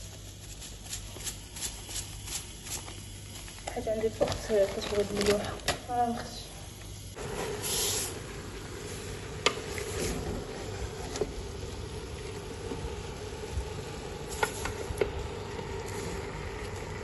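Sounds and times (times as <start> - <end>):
chicken and onions sizzling: 1.5 - 17.0.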